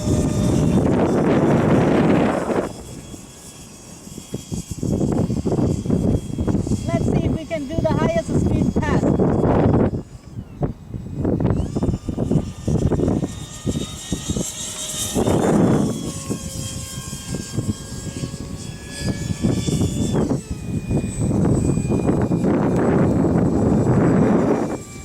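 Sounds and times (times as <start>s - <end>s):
model jet fan whining: 0.0s - 25.0s
wind rumble on microphone: 0.0s - 25.0s.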